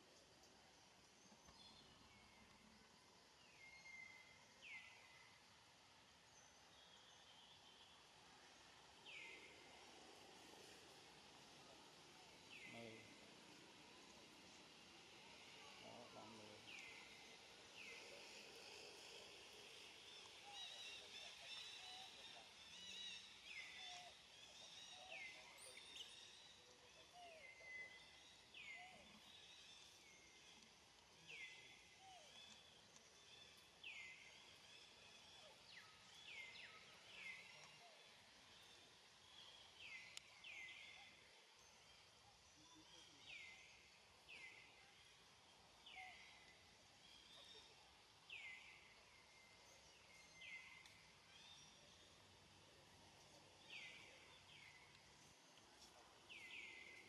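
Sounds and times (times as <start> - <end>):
faint forest ambience: 0.0 - 57.0.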